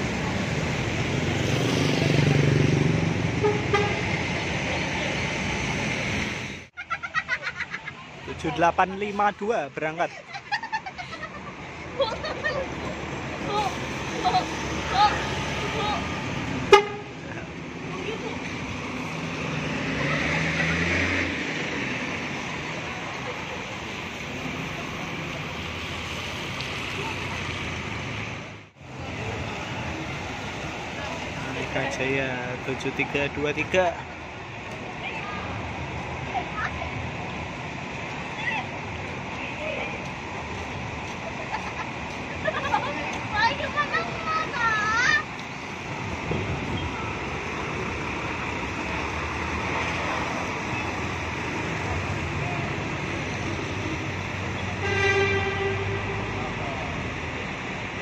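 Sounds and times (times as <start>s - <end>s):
rain and traffic on wet road: 0.0s - 58.0s
diesel coach engine: 7.4s - 58.0s.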